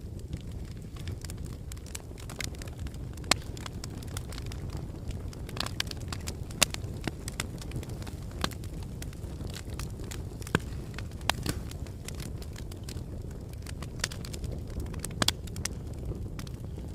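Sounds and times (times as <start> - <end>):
fire crackling and popping: 0.0 - 16.9
fire rumbling: 0.0 - 16.9.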